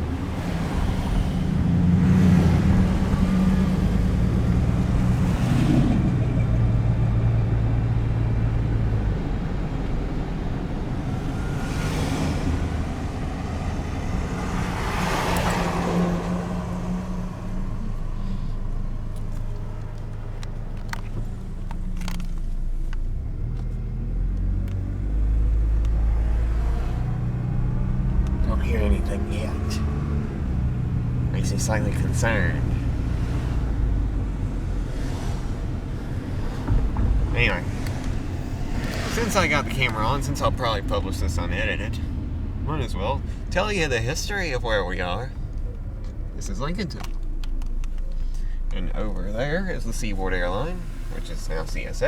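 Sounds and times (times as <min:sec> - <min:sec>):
car engine hum: 0:00.0 - 0:52.0
road noise inside car: 0:00.0 - 0:52.0.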